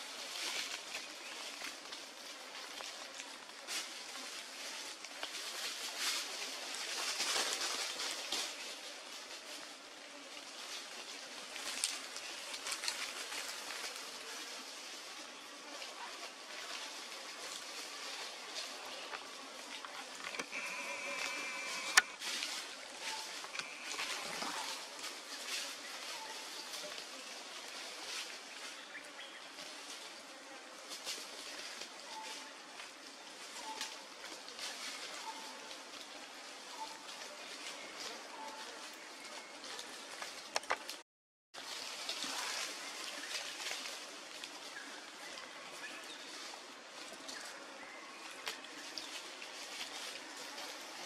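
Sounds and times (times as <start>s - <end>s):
forest background hiss: 0.0s - 41.0s, 41.6s - 51.0s.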